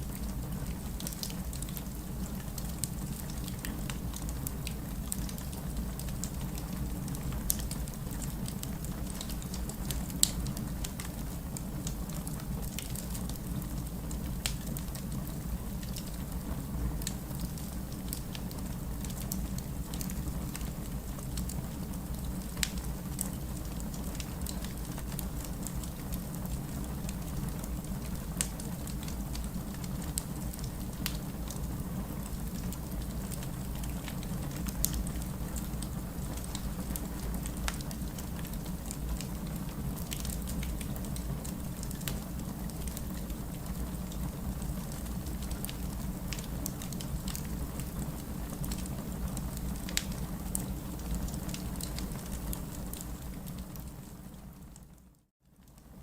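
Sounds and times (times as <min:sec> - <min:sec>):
rain rumbling: 0:00.0 - 0:55.0
wood fire crackling and popping: 0:00.0 - 0:55.0.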